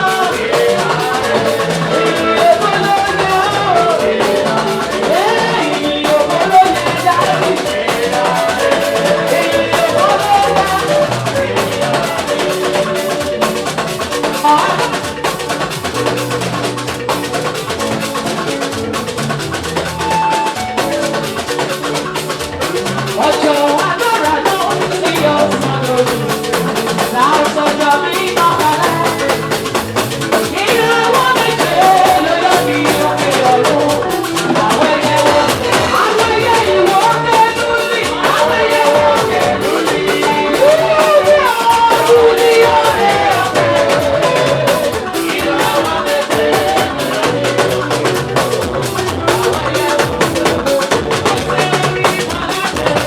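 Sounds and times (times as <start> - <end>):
drum kit beat: 0.0 - 53.0
gospel praise band playing: 0.0 - 53.0
person singing: 0.0 - 53.0.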